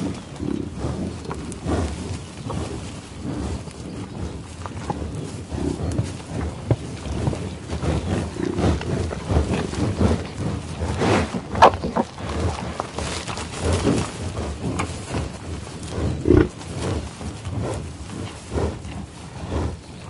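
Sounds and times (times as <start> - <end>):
buffalo chewing grass: 0.0 - 20.0
buffalo sniffing: 0.0 - 20.0.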